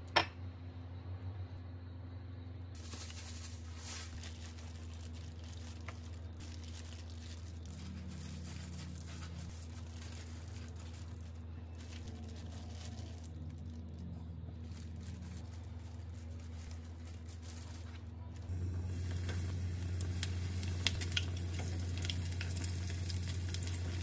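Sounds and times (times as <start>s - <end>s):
steady low hum: 0.0s - 24.0s
breadcrumbs rustling: 2.8s - 24.0s
plastic glove crinkling: 2.8s - 24.0s.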